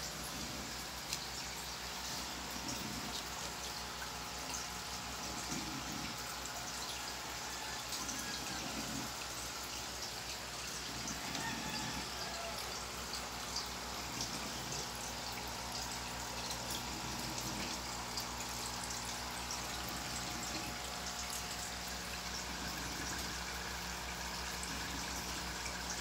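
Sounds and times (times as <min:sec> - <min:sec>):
aquarium air pump humming: 0:00.0 - 0:26.0.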